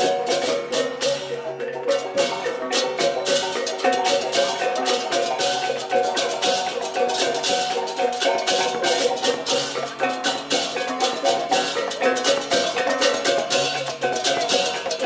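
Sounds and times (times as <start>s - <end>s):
gongs and metallophones ringing: 0.0s - 15.0s.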